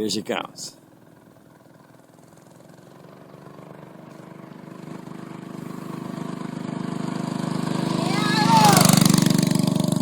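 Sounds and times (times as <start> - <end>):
minibike engine approaching: 0.8 - 10.0.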